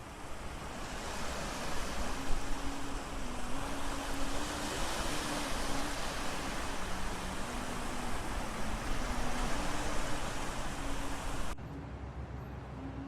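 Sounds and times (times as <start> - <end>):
faint wavering hum: 0.0 - 11.6
steady rushing noise: 0.0 - 11.6.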